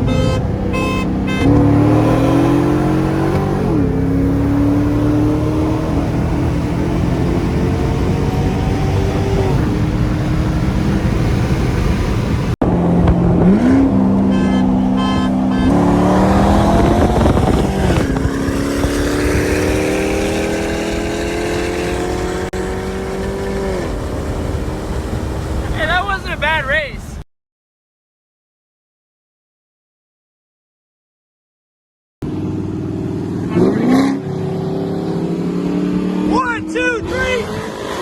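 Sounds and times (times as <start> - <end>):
car engine at full throttle: 0.0 - 26.5, 32.2 - 38.0.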